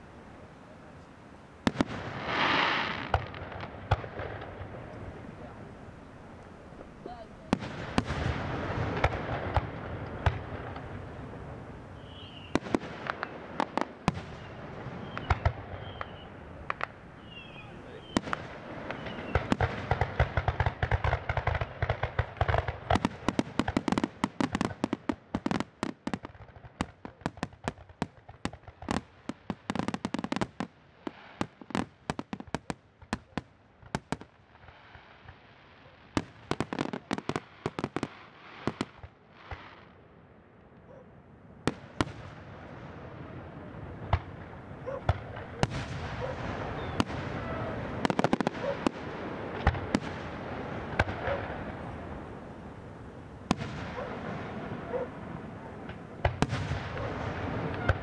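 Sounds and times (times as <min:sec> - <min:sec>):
fireworks bangs: 0:01.6 - 0:05.9, 0:06.7 - 0:39.9, 0:41.6 - 0:58.0.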